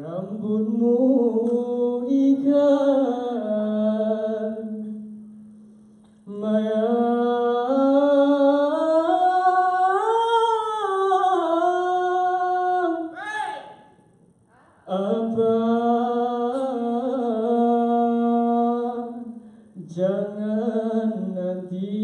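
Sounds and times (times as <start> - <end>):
man singing unaccompanied: 0.0 - 5.0, 6.2 - 13.2, 14.9 - 22.0.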